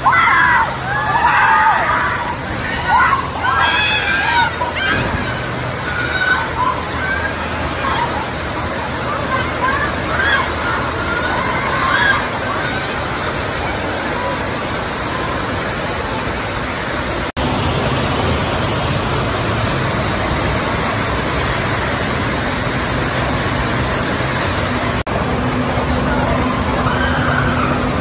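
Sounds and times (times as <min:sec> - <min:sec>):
water rushing down slide: 0:00.0 - 0:28.0.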